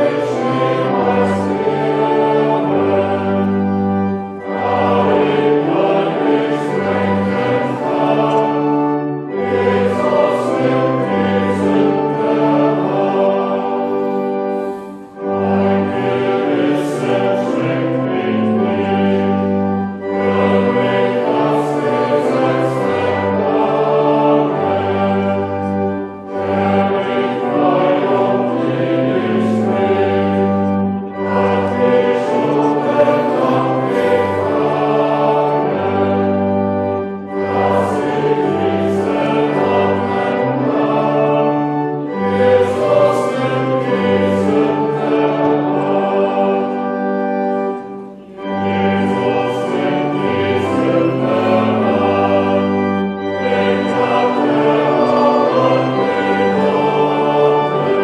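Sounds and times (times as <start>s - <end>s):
accompaniment with held low notes: 0.0s - 58.0s
voices singing a hymn: 0.0s - 58.0s.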